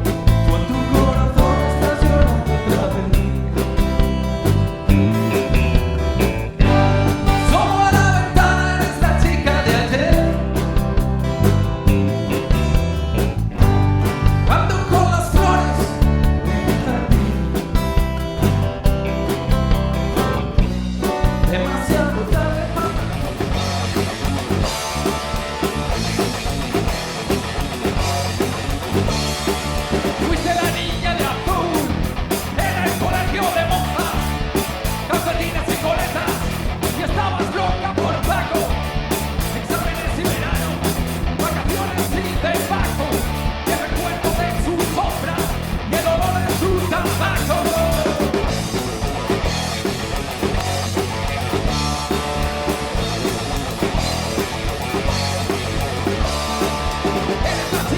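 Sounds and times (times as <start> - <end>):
bass guitar: 0.0 - 57.9
drums: 0.0 - 57.9
electric guitars: 0.0 - 57.9.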